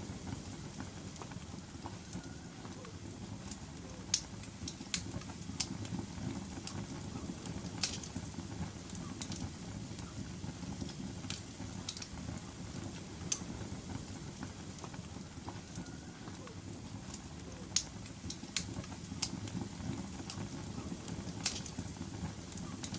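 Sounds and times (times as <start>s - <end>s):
fire crackling and popping: 0.0s - 22.9s
low rumble of flames: 0.0s - 22.9s.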